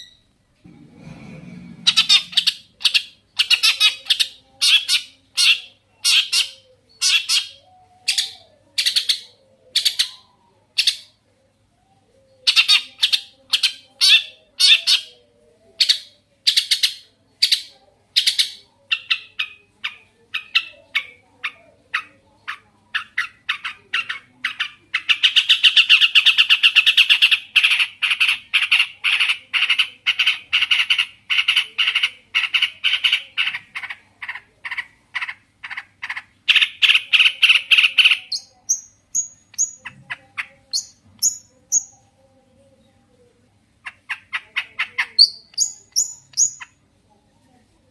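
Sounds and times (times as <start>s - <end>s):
shrike harsh calls and chatter: 0.0s - 47.9s.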